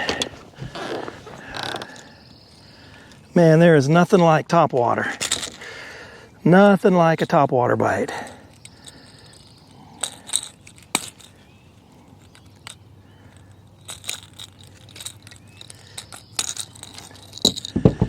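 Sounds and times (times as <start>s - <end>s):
clicks and rattles of handling: 0.0s - 3.2s, 4.7s - 5.7s, 7.0s - 18.0s.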